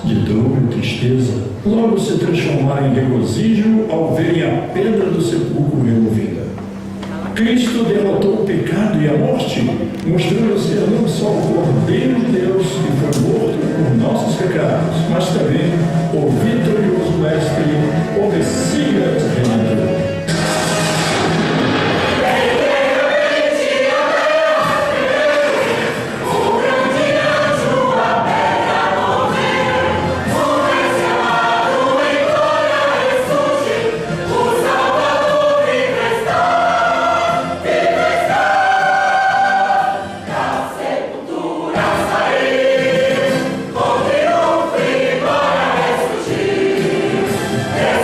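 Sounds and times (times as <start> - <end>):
choir singing gospel: 0.0 - 48.0
musical backing: 0.0 - 48.0.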